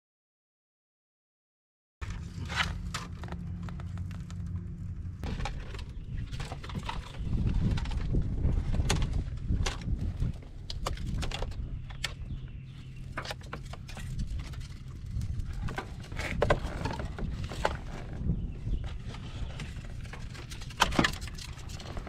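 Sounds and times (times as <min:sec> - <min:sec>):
low steady rumble: 0:02.0 - 0:22.0.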